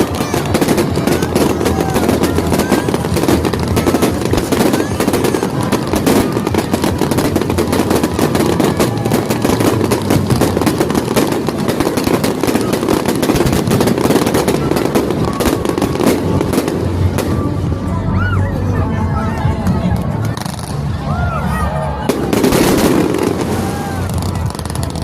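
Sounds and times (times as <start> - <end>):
fireworks crackling and banging: 0.0 - 17.9, 19.6 - 21.0, 22.0 - 25.0.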